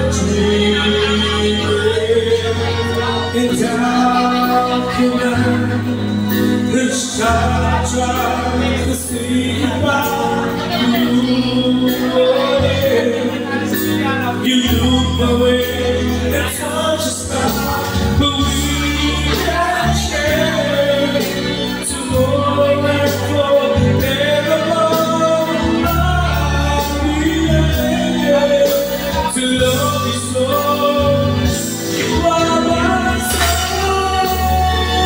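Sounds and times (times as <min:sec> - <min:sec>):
backing music with bass: 0:00.0 - 0:35.0
man singing into microphone: 0:00.0 - 0:35.0.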